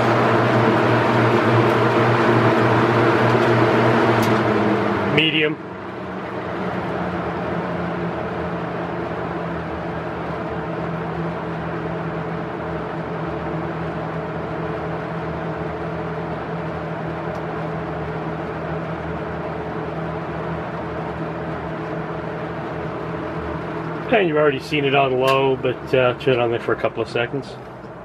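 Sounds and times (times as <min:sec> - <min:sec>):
box fan running: 0:00.0 - 0:28.0.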